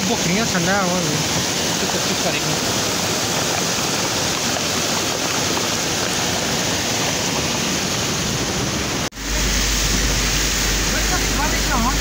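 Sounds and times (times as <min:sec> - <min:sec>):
floodwater rushing along street: 0:00.0 - 0:12.0
heavy rain pouring: 0:00.0 - 0:12.0.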